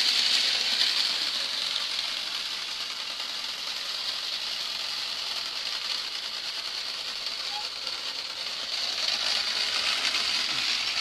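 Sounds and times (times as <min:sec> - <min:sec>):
model train whirring rattle: 0:00.0 - 0:11.0.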